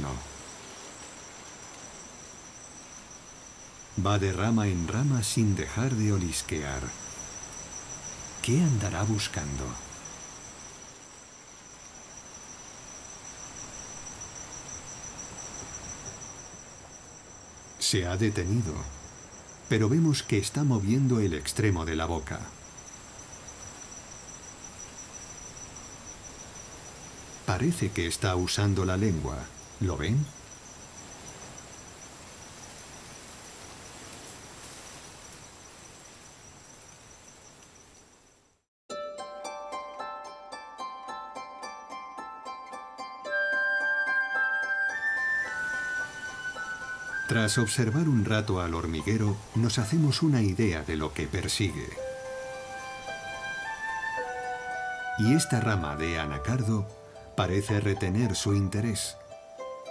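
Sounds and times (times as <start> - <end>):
faint hiss: 0.0 - 38.7, 43.3 - 59.9
insects trilling: 0.0 - 38.7, 41.4 - 59.9.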